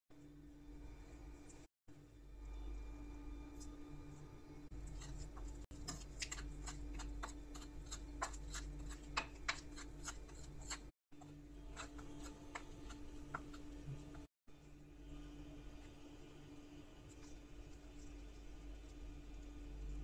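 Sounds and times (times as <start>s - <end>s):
faint steady hum: 0.1s - 20.0s.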